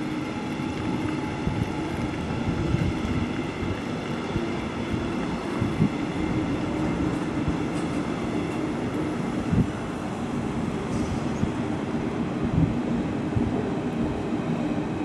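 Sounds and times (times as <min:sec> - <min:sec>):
electric trains rumbling: 0:00.0 - 0:15.0.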